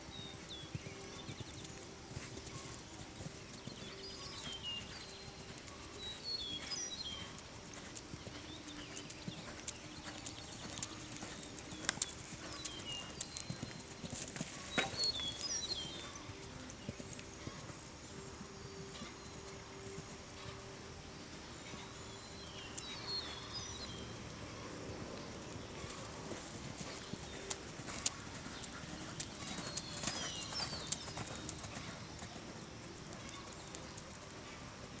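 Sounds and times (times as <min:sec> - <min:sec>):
horse hoofbeats on sand: 0:00.0 - 0:20.6, 0:25.6 - 0:34.6.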